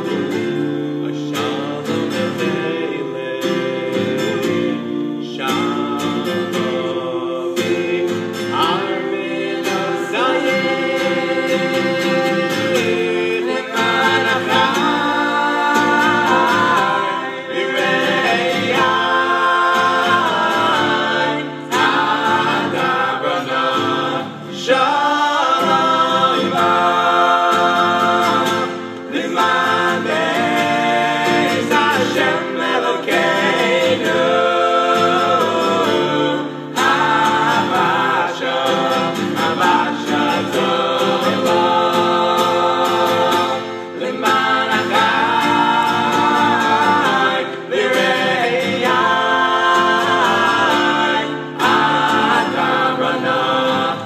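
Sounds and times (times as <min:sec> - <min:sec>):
men singing in harmony: 0:00.0 - 0:54.0
strummed acoustic guitar: 0:00.0 - 0:54.0.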